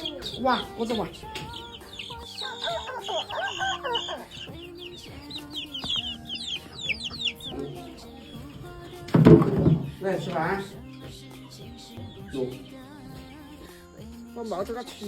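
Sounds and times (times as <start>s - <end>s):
background music: 0.0s - 15.0s
chickens clucking: 0.0s - 15.0s
high chirping calls: 0.0s - 15.0s.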